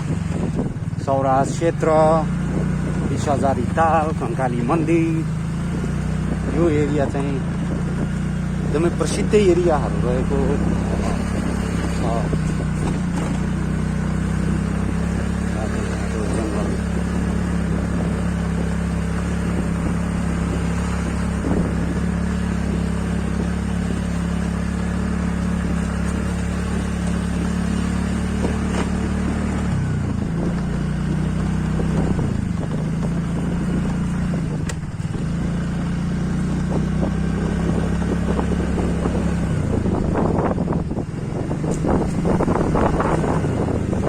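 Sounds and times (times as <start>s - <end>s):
motorcycle engine running: 0.0s - 44.0s
wind and road noise: 0.0s - 44.0s.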